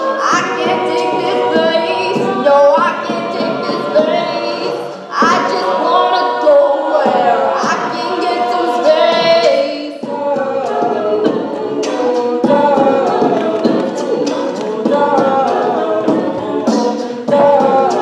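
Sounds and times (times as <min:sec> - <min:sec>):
a cappella group singing: 0:00.0 - 0:18.0.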